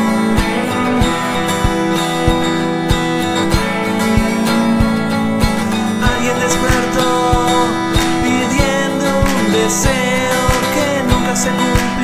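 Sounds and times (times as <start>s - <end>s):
acoustic guitar strumming: 0.0s - 12.0s
steady low beat: 0.0s - 12.0s.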